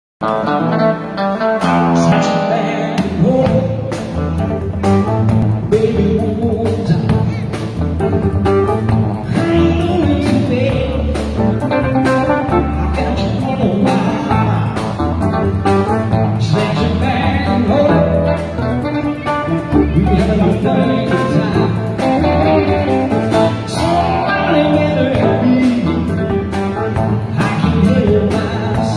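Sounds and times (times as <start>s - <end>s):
blues band playing: 0.2s - 28.9s.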